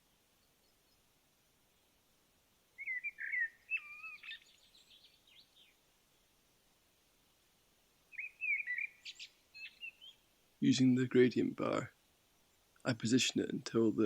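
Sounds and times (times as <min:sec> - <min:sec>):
songbird singing: 0:00.0 - 0:02.0, 0:02.7 - 0:06.4, 0:08.1 - 0:14.0.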